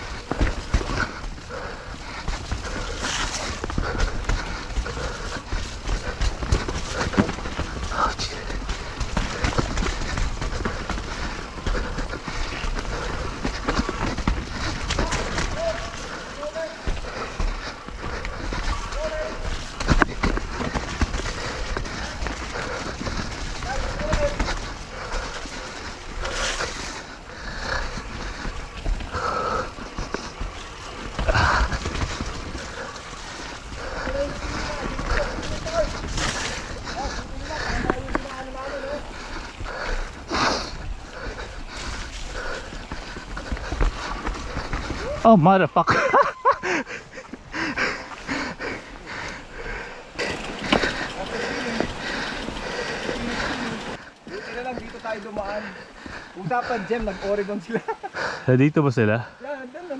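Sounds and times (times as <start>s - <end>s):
mountain bike rattling over rocks: 0.0s - 46.6s, 48.3s - 57.7s.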